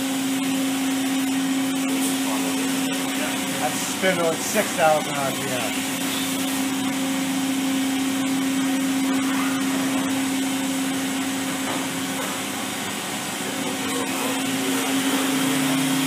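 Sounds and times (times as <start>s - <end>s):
machine background hum: 0.0s - 16.0s
machine spindle whine: 0.0s - 16.0s.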